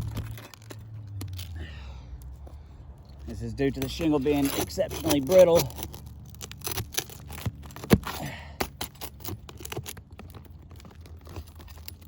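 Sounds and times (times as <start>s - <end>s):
roof shingle cracking and scraping: 0.0s - 1.6s, 3.1s - 12.0s.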